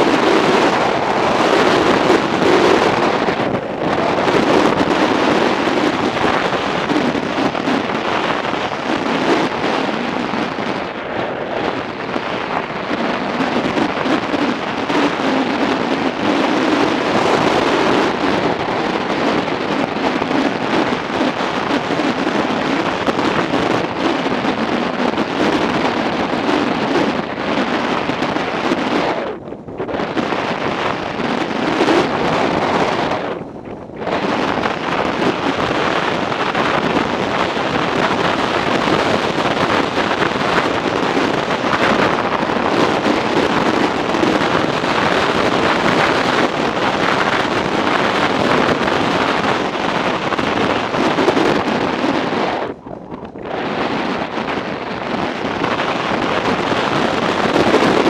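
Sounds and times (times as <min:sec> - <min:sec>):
road noise: 0:00.0 - 0:58.0
wind rushing on microphone: 0:00.0 - 0:58.0.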